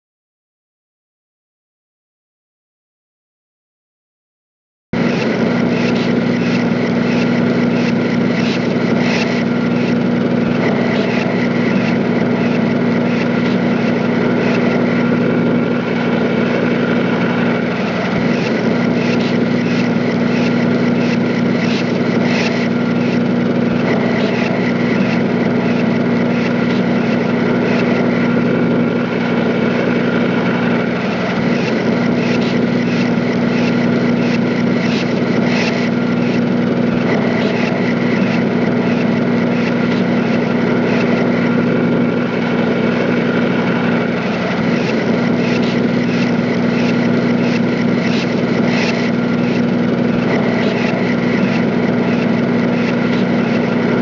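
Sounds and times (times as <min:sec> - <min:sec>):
machine droning: 0:05.0 - 0:54.0.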